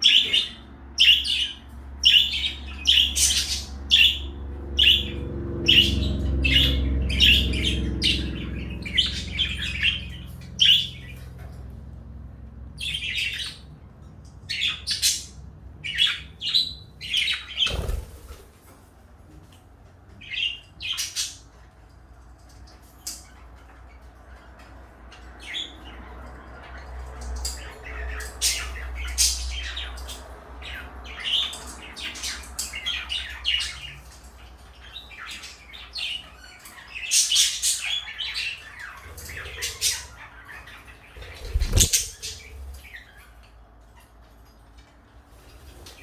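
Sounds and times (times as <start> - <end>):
parakeets chirping: 0.0 - 18.5, 20.2 - 21.9, 22.6 - 43.5.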